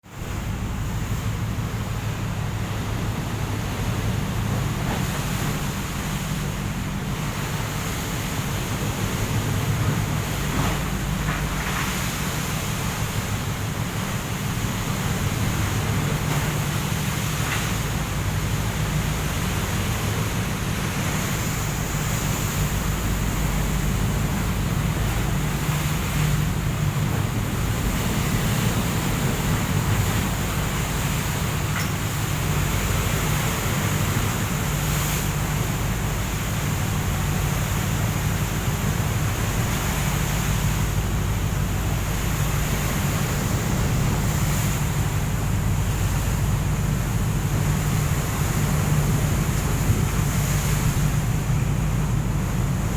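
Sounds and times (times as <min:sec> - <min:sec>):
boat engine humming: 0:00.0 - 0:52.9
sea noise: 0:00.0 - 0:52.9
wind: 0:00.0 - 0:52.9.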